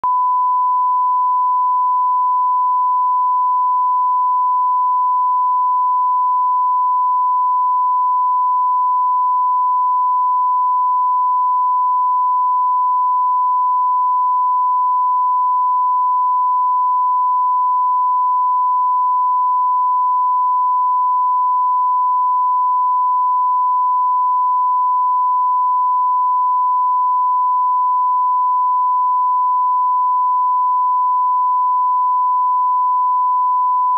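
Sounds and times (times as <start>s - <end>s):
steady sine-wave tone: 0.0s - 33.9s.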